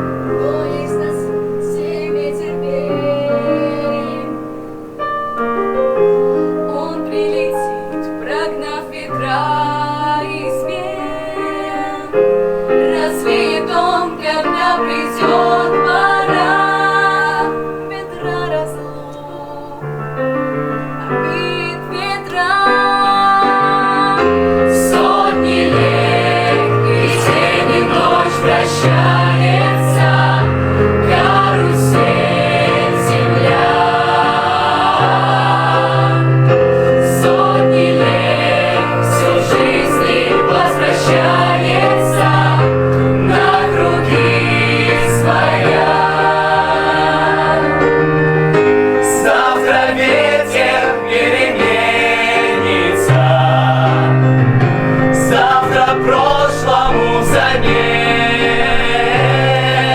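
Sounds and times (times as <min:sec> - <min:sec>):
group singing in chorus: 0:00.0 - 0:04.9, 0:05.8 - 0:19.8, 0:21.0 - 0:59.9
piano chords: 0:00.0 - 0:59.9.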